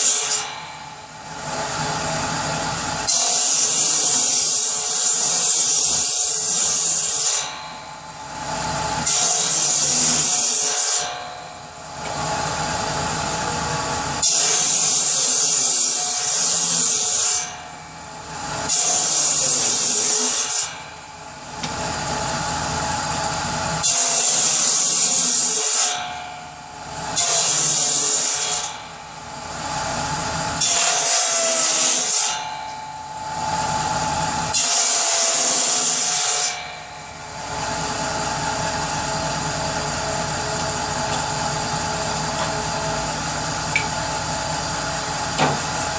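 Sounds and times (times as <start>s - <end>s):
power saw cutting wood: 0.0s - 45.9s
saw running with no load: 0.0s - 45.9s.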